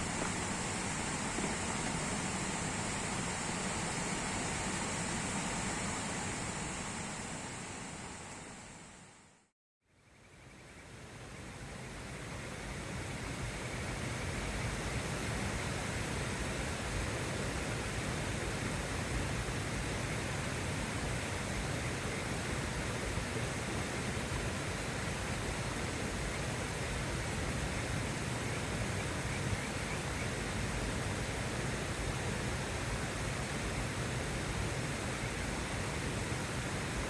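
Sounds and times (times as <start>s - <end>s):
steady rain on a tent: 0.0s - 8.6s, 11.0s - 37.0s.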